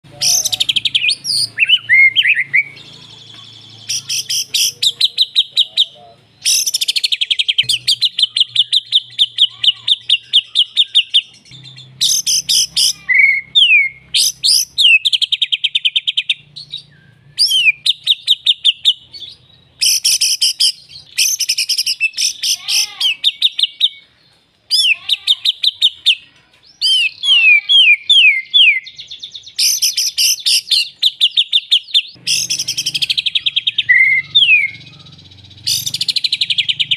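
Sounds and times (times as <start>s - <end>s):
songbird singing trills: 0.1s - 36.9s.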